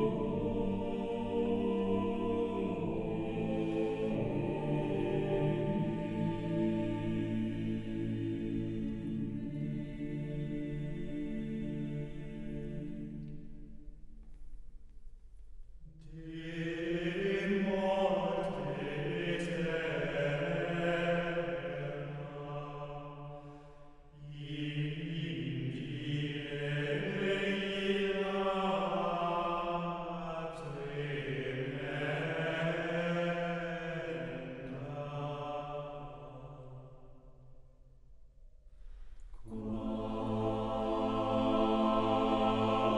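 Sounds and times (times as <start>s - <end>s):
slow chanted singing: 0.0s - 42.9s.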